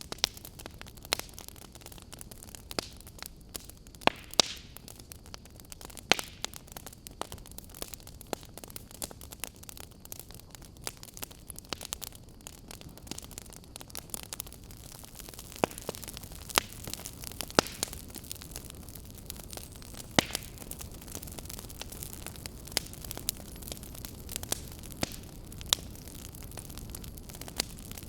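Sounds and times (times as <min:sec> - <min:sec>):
fire crackling and popping: 0:00.0 - 0:28.0
fire flames hissing: 0:00.0 - 0:28.0.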